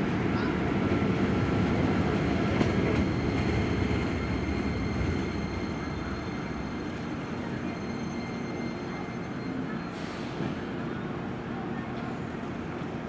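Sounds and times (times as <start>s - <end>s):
electric train rumbling: 0.0s - 11.4s.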